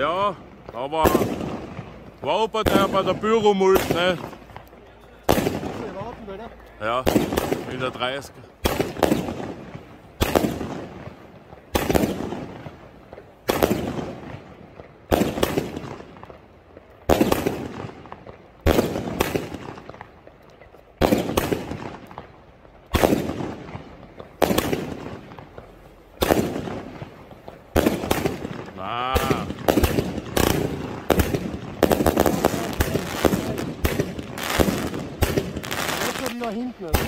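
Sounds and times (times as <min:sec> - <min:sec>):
fireworks bangs with echo: 0:00.0 - 0:37.0.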